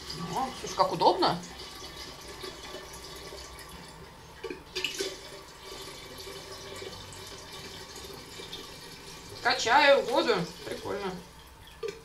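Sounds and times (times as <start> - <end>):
water trickling into kettle: 0.0 - 12.0.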